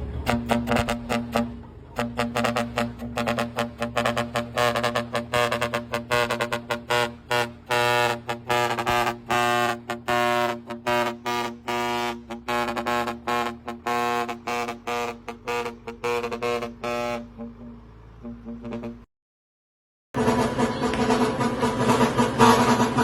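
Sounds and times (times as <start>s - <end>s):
horn short blasts: 0.2s - 19.1s, 20.2s - 23.0s.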